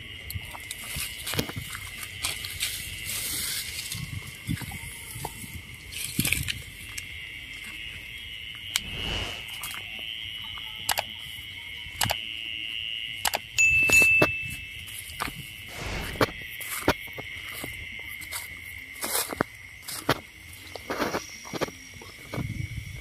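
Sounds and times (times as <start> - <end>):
crickets and insects chirping: 0.0 - 23.0.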